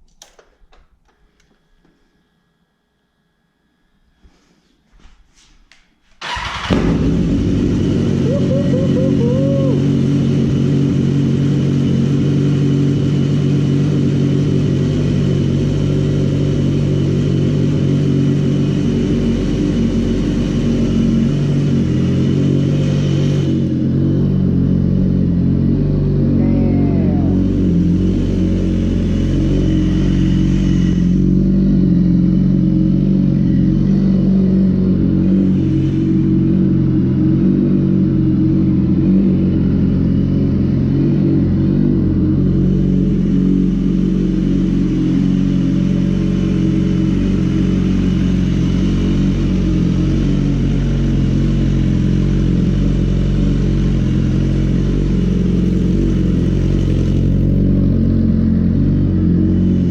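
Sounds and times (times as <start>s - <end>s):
motorcycle engine idling: 6.2s - 59.9s.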